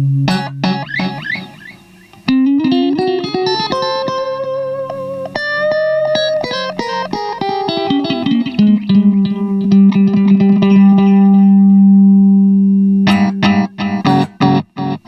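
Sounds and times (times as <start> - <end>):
electric guitar with delay echoes: 0.0 - 15.0.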